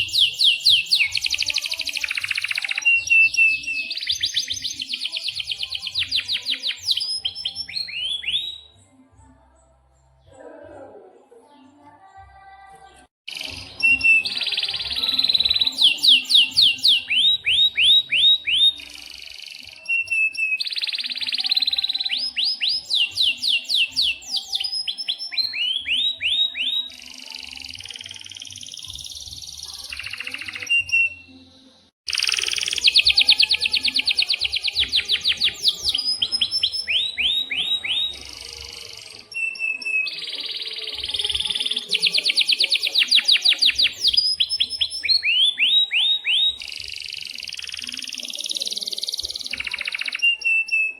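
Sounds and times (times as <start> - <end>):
canary singing trills: 0.0 - 10.3, 13.3 - 50.9.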